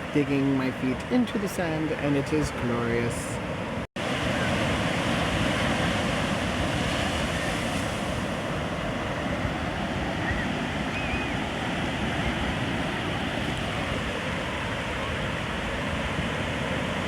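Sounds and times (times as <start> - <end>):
ocean surf washing in: 0.0 - 17.0
wind on microphone: 3.0 - 17.0.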